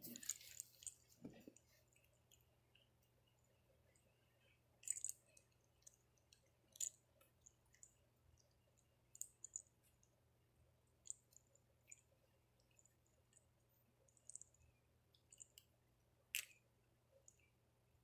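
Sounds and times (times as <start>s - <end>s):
faint high clicks and crackles: 0.0s - 10.2s, 10.9s - 17.6s.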